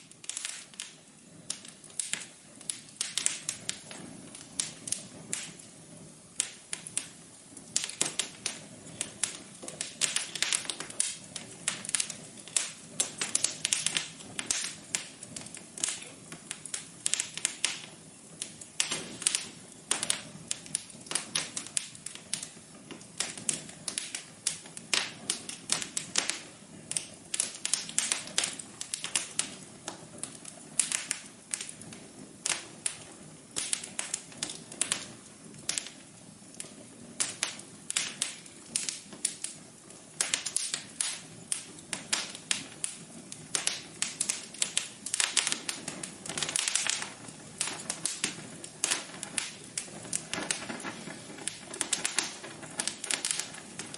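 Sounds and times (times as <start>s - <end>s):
burning wood snapping and popping: 0.0s - 53.9s
soft steady fire hiss: 0.0s - 53.9s.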